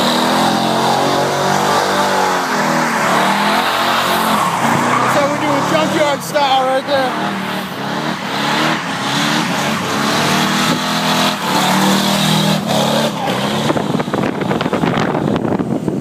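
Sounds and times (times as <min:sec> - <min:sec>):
pickup truck engine revving hard: 0:00.0 - 0:15.4.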